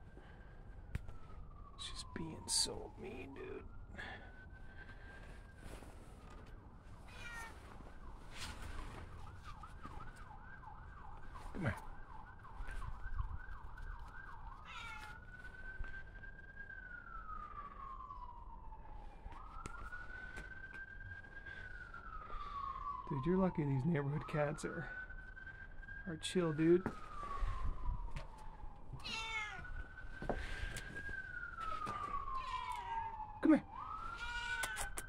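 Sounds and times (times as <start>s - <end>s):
emergency siren wailing: 0.0s - 35.0s.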